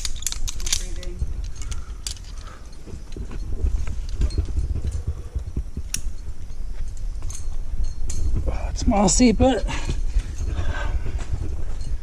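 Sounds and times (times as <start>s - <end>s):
climbing gear clinks: 0.0s - 12.0s.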